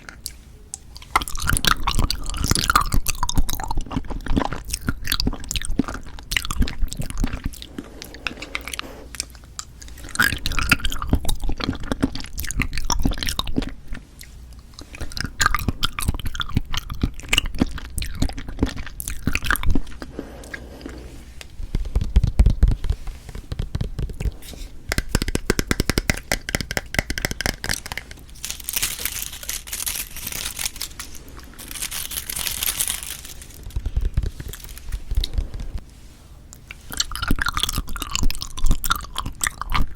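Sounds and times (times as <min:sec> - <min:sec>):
wet chewing and biting: 0:00.0 - 0:35.8, 0:36.5 - 0:39.9.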